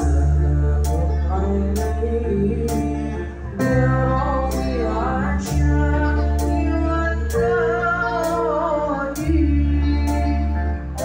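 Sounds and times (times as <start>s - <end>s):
bass: 0.0s - 11.0s
electric guitar: 0.0s - 11.0s
keyboard: 0.0s - 11.0s
man singing into a microphone: 0.0s - 11.0s.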